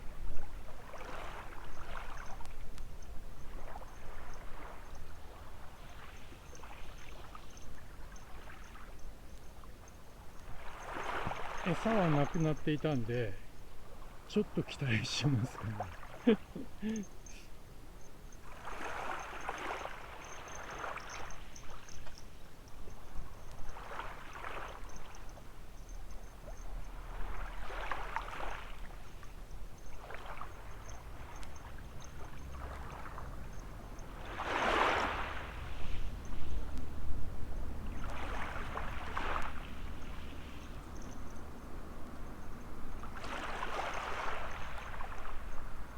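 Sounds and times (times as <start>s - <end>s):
small waves washing on beach: 0.0s - 17.6s, 18.4s - 45.9s.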